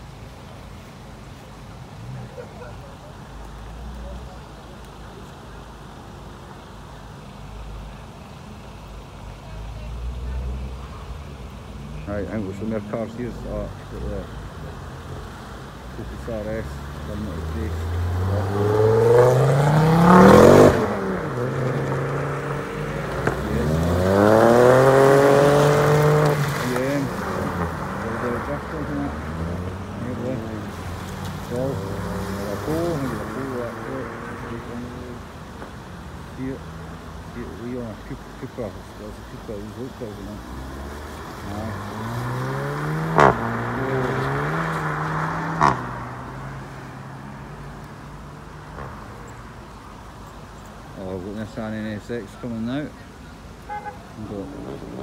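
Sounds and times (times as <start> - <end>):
car engines accelerating hard: 0.0 - 55.0.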